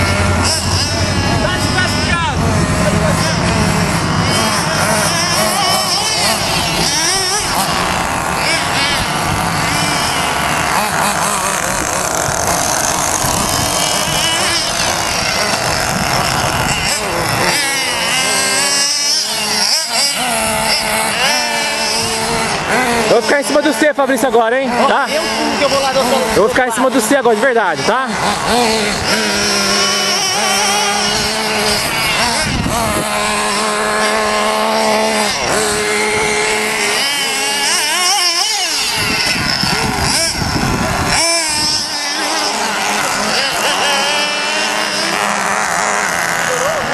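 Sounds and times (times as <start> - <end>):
small engines buzzing at high revs: 0.0 - 46.9.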